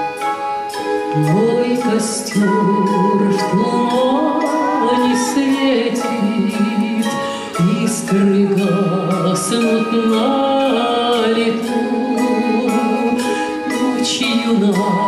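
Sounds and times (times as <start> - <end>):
plucked folk string orchestra: 0.0 - 15.0
woman singing: 1.1 - 15.0.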